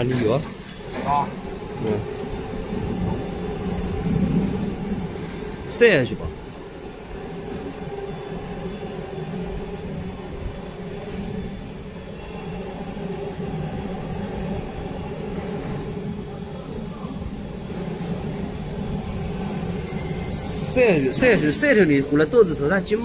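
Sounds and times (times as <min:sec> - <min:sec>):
thin high whine: 0:00.0 - 0:23.0
workshop machinery drone: 0:00.0 - 0:23.0.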